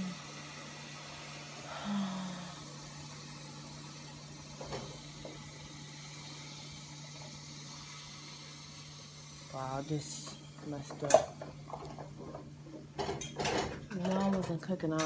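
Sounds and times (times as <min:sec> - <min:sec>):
pot of water boiling: 0:00.0 - 0:15.0.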